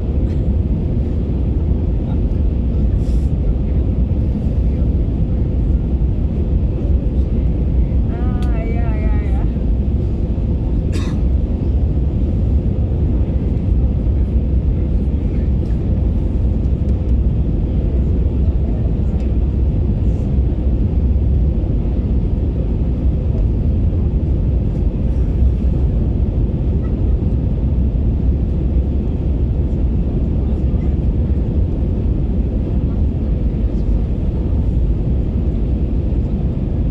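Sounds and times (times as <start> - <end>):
aircraft cabin engine rumble: 0.0 - 36.9.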